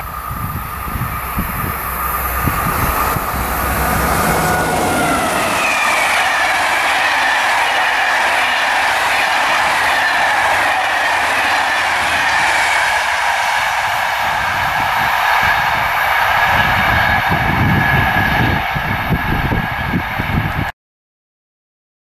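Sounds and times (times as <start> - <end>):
train wheels rolling on rails: 0.0 - 20.7.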